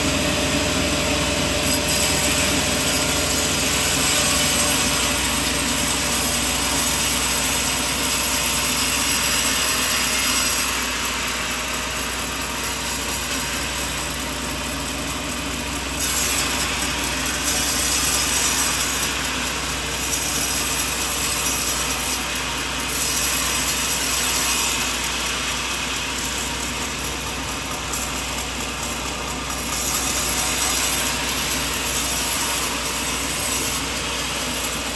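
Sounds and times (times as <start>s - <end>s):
saw blade cutting wood: 0.0s - 34.9s
sawmill machine hum: 0.0s - 34.9s.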